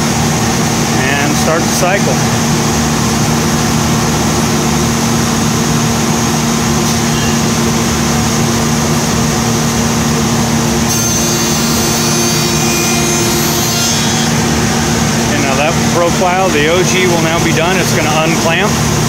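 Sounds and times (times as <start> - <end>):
cnc machine spindles running: 0.0 - 19.0
high-pitched cutting whine: 0.2 - 19.0.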